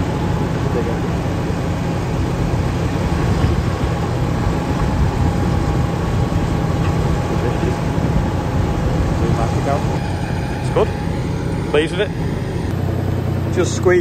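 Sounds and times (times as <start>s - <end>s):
excavator engine: 0.0s - 14.0s
thin steady whine: 0.0s - 14.0s
wood chipper running: 0.0s - 14.0s.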